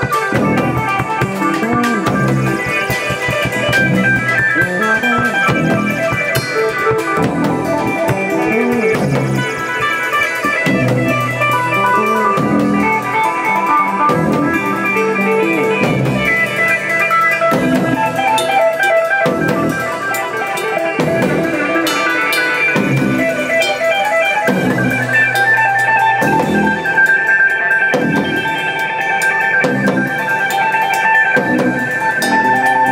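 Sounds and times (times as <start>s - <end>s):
bass guitar: 0.0s - 32.9s
drum kit: 0.0s - 32.9s
electric guitar picking: 0.0s - 32.9s.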